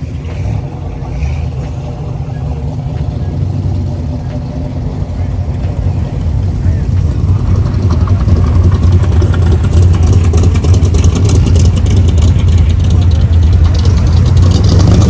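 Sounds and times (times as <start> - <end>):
loud car engine running: 0.0 - 15.0.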